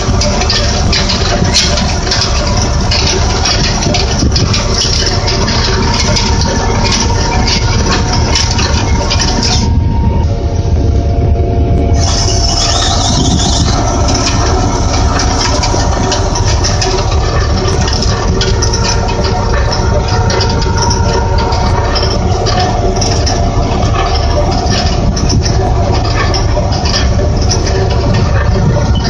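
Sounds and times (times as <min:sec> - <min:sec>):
wire fence clanking and rattling: 0:00.0 - 0:09.7, 0:12.0 - 0:29.0
loader engine running: 0:00.0 - 0:29.0.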